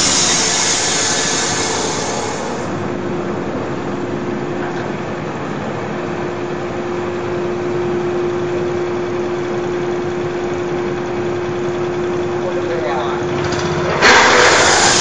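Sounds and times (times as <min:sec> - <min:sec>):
band sawmill running: 0:00.0 - 0:15.0.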